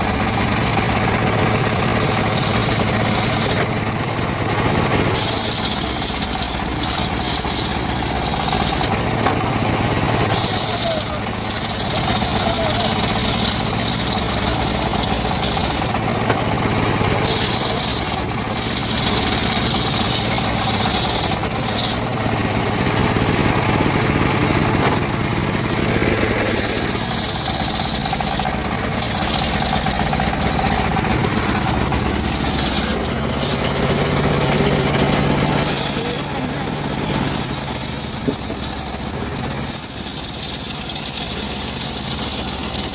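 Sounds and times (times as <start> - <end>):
saw cutting timber hiss: 0.0 - 42.9
saw engine humming: 0.0 - 42.9.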